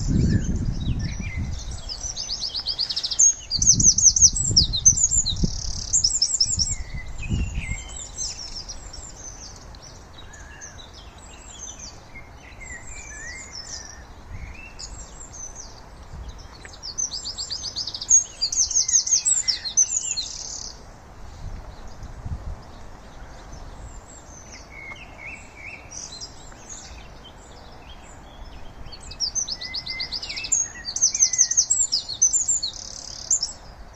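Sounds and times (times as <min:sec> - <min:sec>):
soft bird chirps: 0:00.0 - 0:22.0, 0:22.6 - 0:33.9
songbirds trilling: 0:00.0 - 0:33.9.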